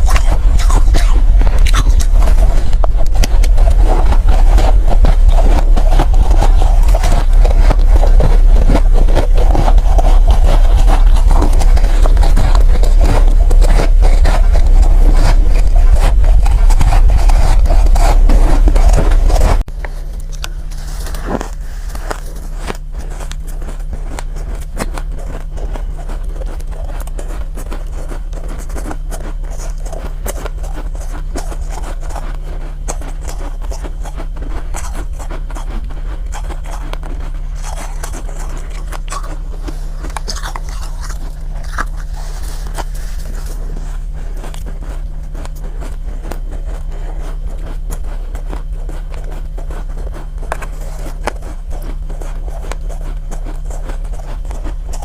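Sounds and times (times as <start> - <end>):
ice being chewed: 0.0 - 55.0
steady low hum: 0.0 - 55.0.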